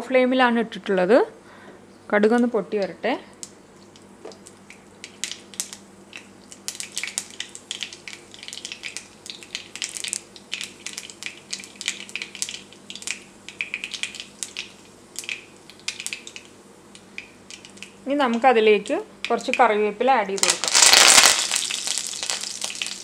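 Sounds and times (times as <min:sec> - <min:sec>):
mustard seeds popping in hot oil: 0:02.3 - 0:23.0.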